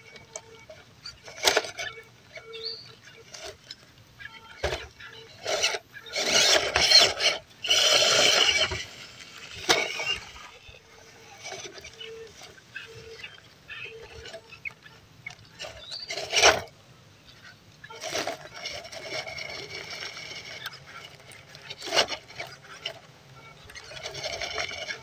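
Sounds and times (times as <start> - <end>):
electric motor whining: 0.0 - 16.7, 17.8 - 25.0.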